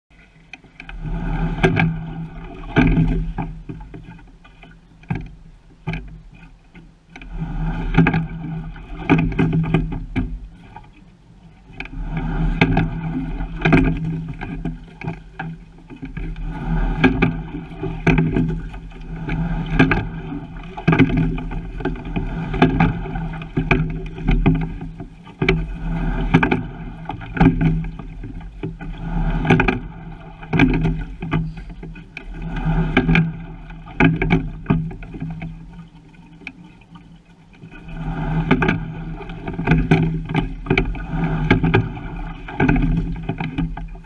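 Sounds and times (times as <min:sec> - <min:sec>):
oars clicking and knocking: 0:00.1 - 0:44.0
water rushing along hull: 0:00.1 - 0:44.0.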